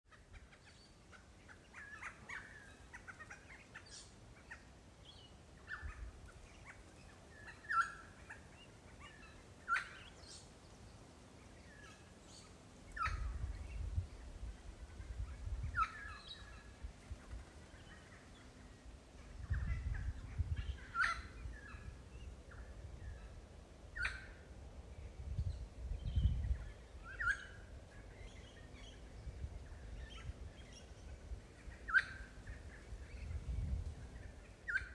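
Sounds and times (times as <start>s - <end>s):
birds calling: 0.1s - 34.9s.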